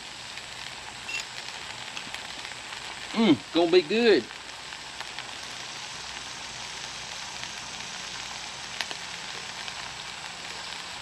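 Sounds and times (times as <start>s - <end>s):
ham sizzling in a skillet: 0.0s - 11.0s.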